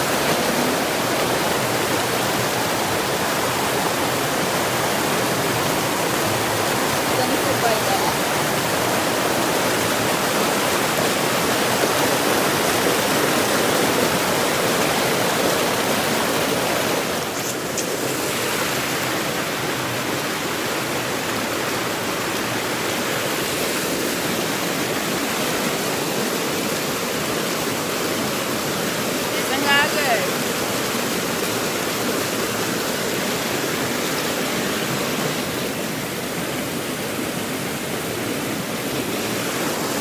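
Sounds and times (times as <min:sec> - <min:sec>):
river water rushing over rocks: 0:00.0 - 0:40.0.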